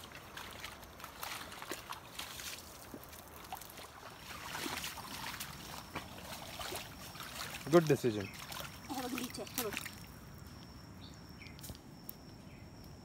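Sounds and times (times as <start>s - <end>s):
bare feet squelching in mud: 0.0s - 10.7s
muddy water trickling: 0.0s - 13.0s.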